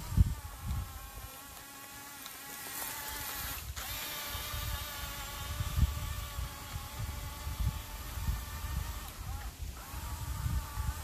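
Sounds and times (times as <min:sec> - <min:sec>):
toy electric motor whining: 0:00.0 - 0:11.0.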